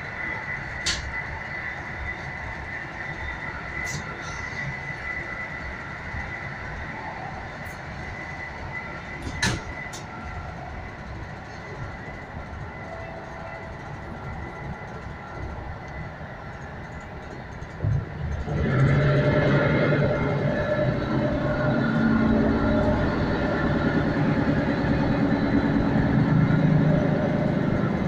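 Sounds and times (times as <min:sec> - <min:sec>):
high whine: 0:00.0 - 0:28.0
train cabin rumble: 0:00.0 - 0:28.0.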